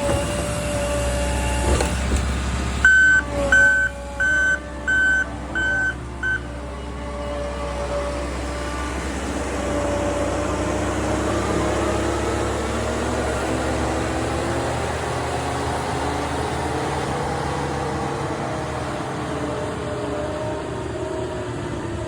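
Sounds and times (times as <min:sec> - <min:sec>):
diesel engine running with whine: 0:00.0 - 0:22.0.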